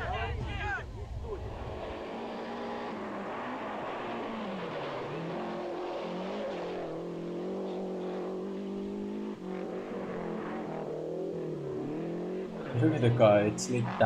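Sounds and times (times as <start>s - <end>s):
rally car engine at high revs: 1.2s - 14.0s.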